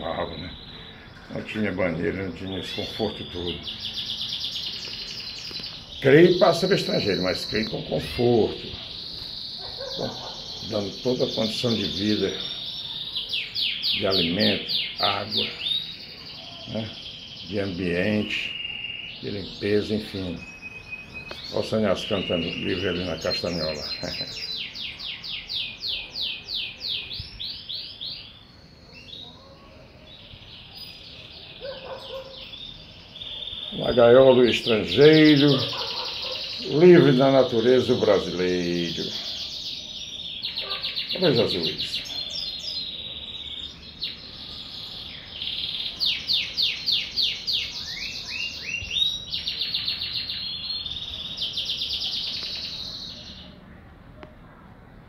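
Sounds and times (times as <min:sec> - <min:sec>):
songbird singing whistled notes: 0:00.0 - 0:53.6.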